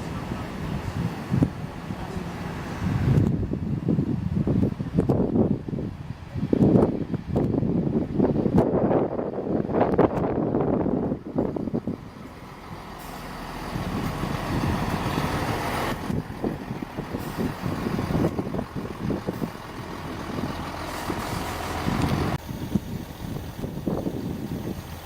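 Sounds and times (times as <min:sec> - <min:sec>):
train rumbling: 0:00.0 - 0:25.0
wind buffeting microphone: 0:00.0 - 0:25.0.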